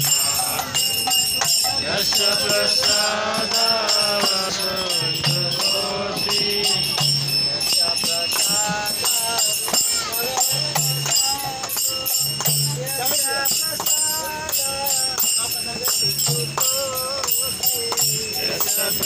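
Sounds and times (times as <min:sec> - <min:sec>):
small hand cymbals ringing: 0:00.0 - 0:19.0
voices singing a chant: 0:00.0 - 0:19.0.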